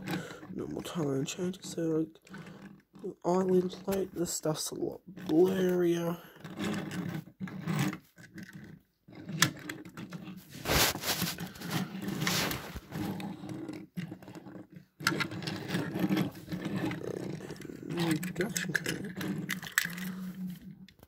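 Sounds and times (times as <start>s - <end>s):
toy cars rubbing and scraping: 0.0s - 21.0s.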